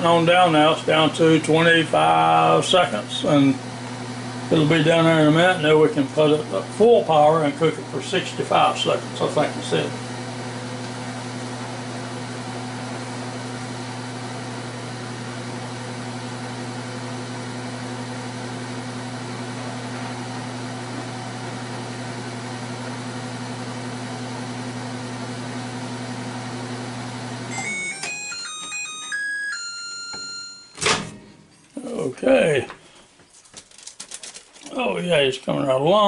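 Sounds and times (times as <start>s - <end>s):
microwave oven humming: 0.0s - 36.0s.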